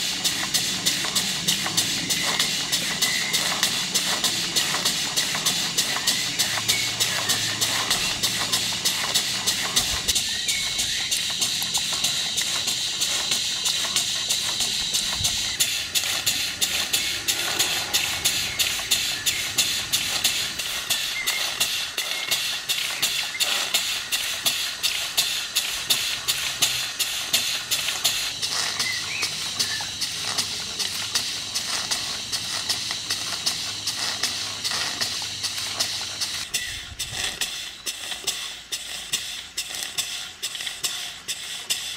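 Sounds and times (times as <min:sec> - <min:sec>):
steam engine exhaust puffs: 0:00.0 - 0:41.9
steam hissing: 0:00.0 - 0:41.9
valve gear clicking: 0:00.0 - 0:41.9.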